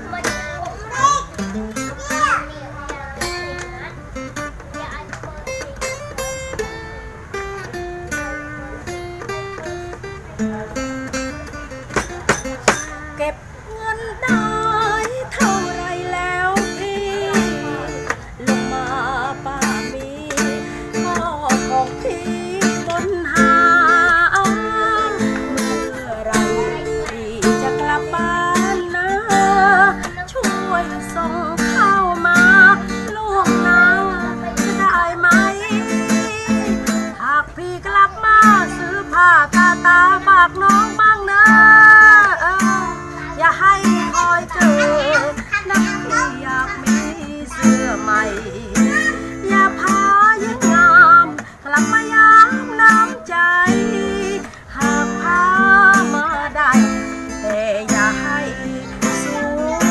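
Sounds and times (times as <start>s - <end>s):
acoustic guitar strumming: 0.0s - 59.9s
man and woman singing: 10.3s - 59.9s.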